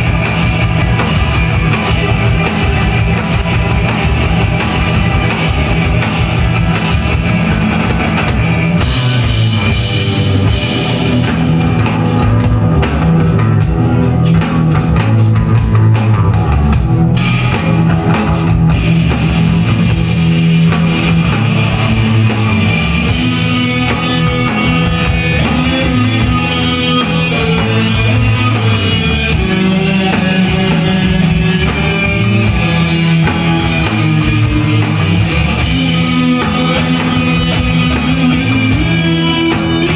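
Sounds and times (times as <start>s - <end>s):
drum kit strikes: 0.0s - 39.9s
rock music: 0.0s - 39.9s.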